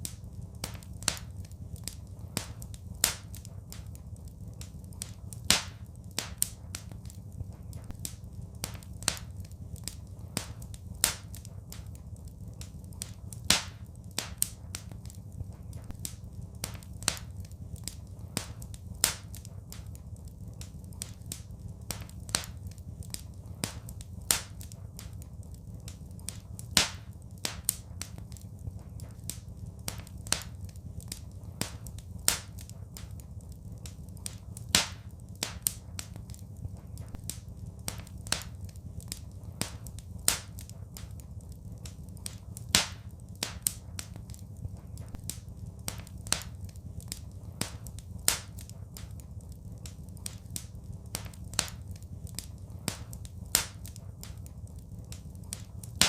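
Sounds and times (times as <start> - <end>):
low steady rumble: 0.0 - 56.0
wood fire crackling and popping: 0.0 - 56.0.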